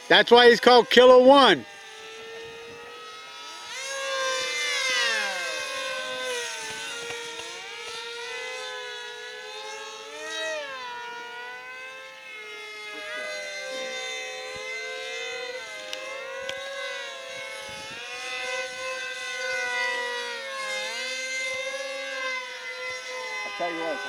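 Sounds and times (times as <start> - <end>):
model airplane motors whining: 0.0 - 24.0.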